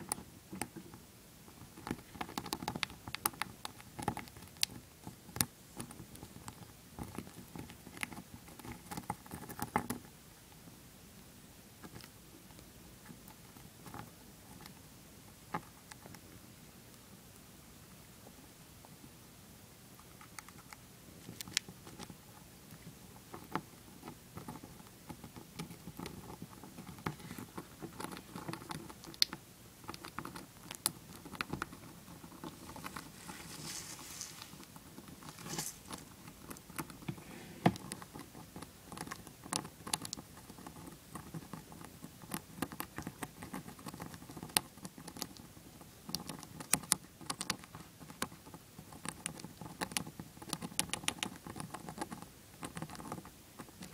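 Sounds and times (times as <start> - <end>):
hamster gnawing peanut: 0.0 - 10.6, 11.2 - 17.5, 19.8 - 53.9.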